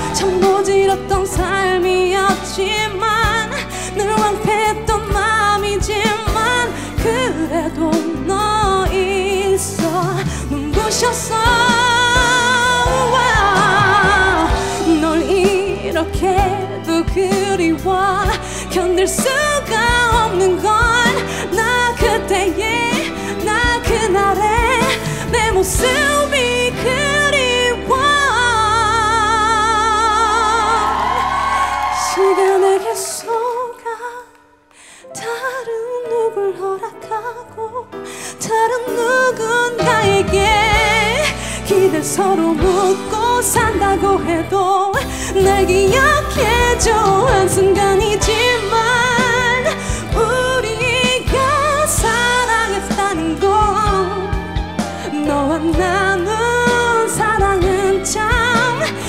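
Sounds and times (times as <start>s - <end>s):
instrumental backing music: 0.0s - 33.4s, 34.8s - 59.0s
woman singing a ballad: 0.0s - 59.0s.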